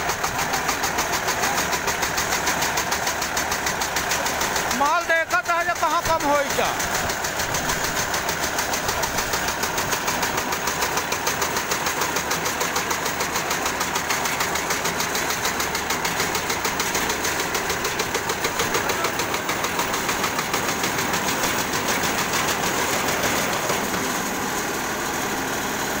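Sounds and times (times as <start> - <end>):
paving machine running with pulsing: 0.0 - 26.0.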